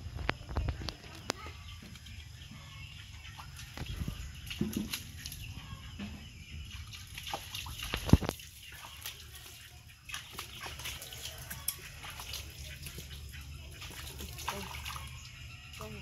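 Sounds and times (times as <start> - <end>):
water splashing and dripping: 0.1 - 16.0.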